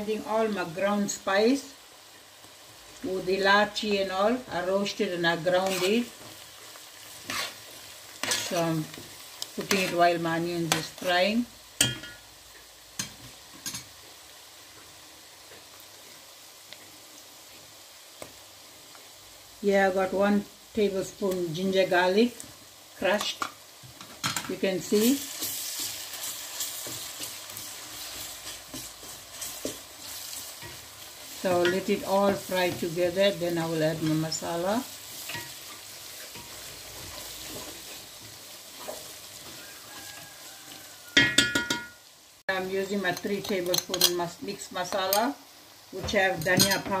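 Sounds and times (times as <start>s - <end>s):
spices sizzling in hot oil: 0.0s - 47.0s.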